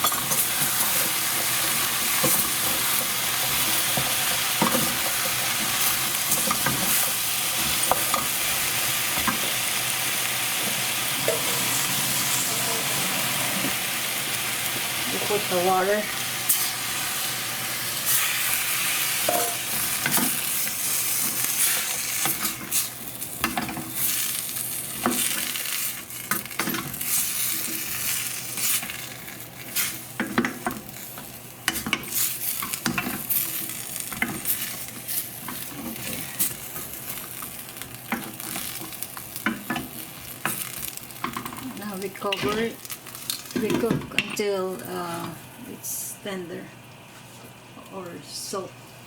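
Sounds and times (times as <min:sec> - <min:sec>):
food sizzling in a hot pan: 0:00.0 - 0:44.0.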